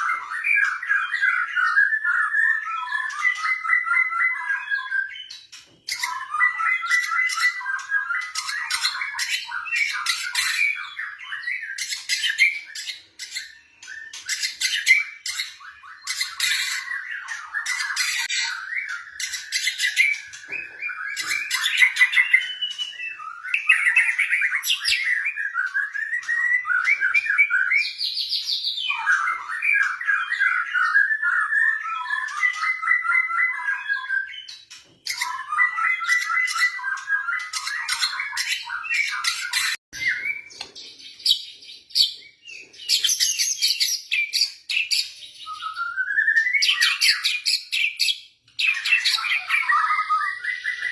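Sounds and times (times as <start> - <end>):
bird singing trills and chatter: 0.0 - 50.9.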